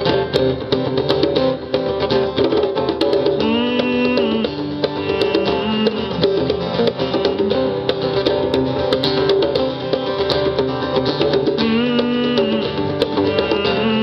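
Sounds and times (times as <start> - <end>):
acoustic guitars playing: 0.0 - 14.0.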